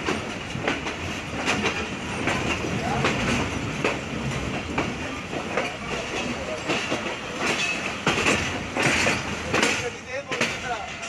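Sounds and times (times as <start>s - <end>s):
train running rumble: 0.0s - 11.0s
train wheels clattering over rail joints: 0.0s - 11.0s.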